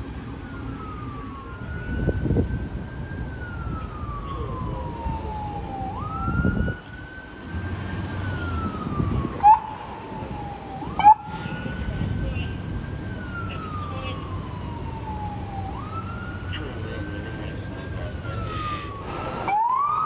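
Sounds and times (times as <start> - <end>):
police siren wailing: 0.0 - 20.0
traffic rumble: 0.0 - 20.0.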